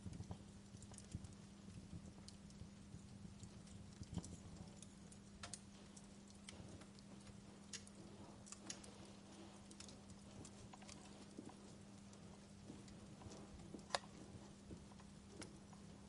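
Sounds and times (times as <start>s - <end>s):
faint low hum: 0.0s - 16.0s
wood fire crackling: 0.0s - 16.0s.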